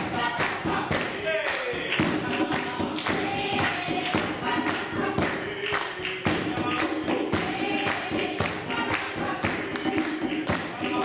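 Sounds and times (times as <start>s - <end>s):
steady beat of thumps: 0.0s - 1.2s, 1.8s - 11.0s
choir singing held notes: 0.0s - 11.0s.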